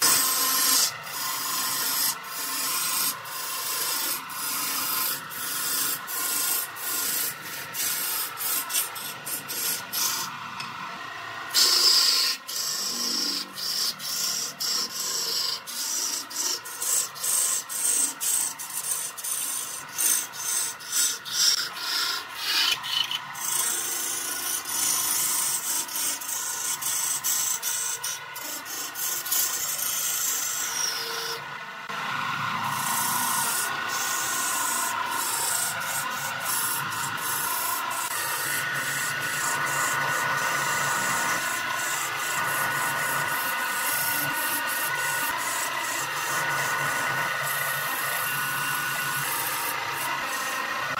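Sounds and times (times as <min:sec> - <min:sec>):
lathe tool scraping wood: 0:00.0 - 0:10.7, 0:11.3 - 0:50.9.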